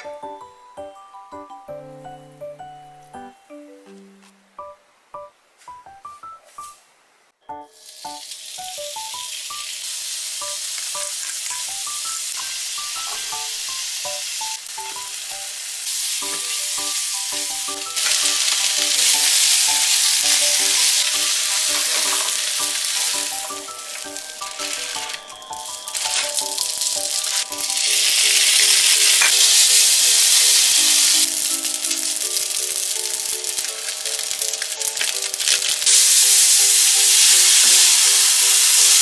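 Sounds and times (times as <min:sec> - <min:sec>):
food sizzling in frying pan: 0:07.6 - 0:39.0.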